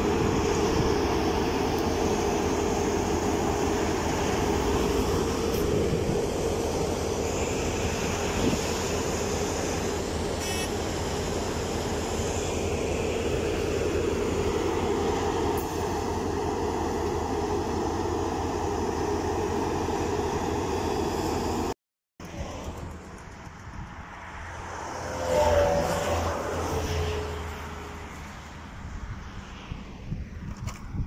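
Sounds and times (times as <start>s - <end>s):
paving machine engine humming: 0.0s - 26.8s.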